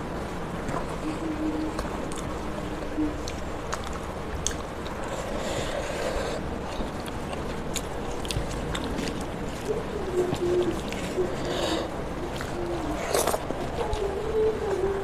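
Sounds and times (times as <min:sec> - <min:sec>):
low room hum: 0:00.0 - 0:15.0
chewing with lip smacks: 0:01.7 - 0:14.8.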